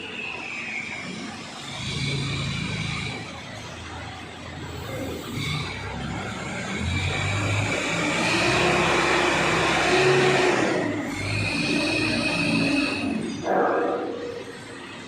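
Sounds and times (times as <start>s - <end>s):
machine whining: 0.0s - 15.0s.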